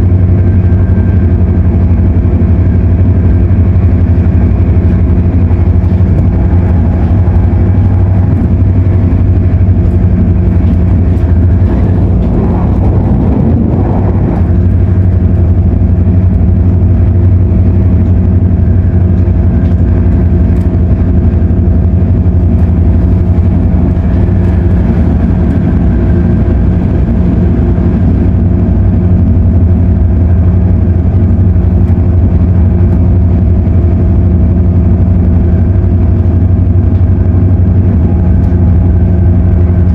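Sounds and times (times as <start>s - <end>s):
noisy air conditioning: 0.0s - 39.9s
train running gear hum: 0.0s - 39.9s.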